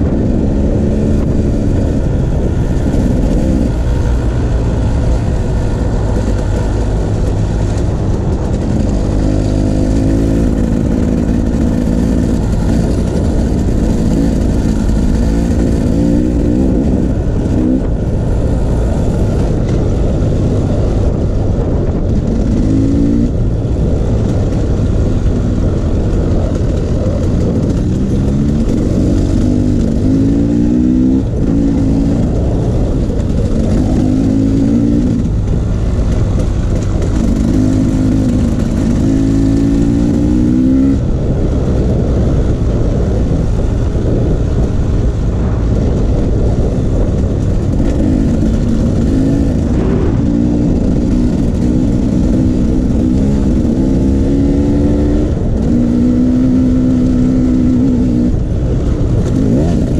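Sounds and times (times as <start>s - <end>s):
dirt bike engine revving: 0.0s - 19.7s, 22.1s - 24.0s, 24.9s - 41.1s, 46.1s - 58.4s, 59.2s - 59.9s.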